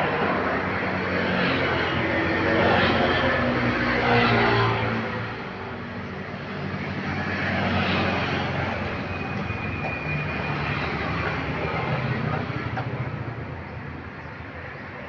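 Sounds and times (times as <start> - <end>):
heavy road traffic passing: 0.0 - 15.0.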